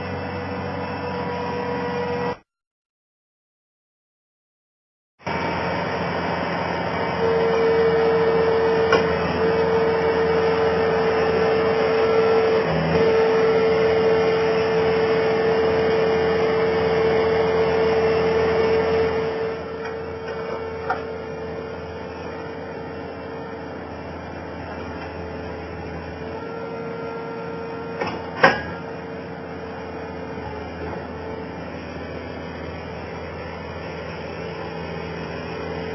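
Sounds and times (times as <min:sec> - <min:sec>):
skid steer engine running: 0:00.0 - 0:02.4, 0:05.2 - 0:35.9.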